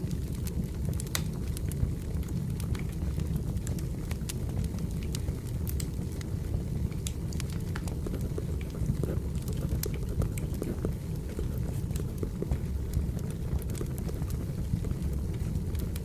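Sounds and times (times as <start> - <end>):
fire crackles and pops: 0.0 - 16.0
firewood burning rumble: 0.0 - 16.0.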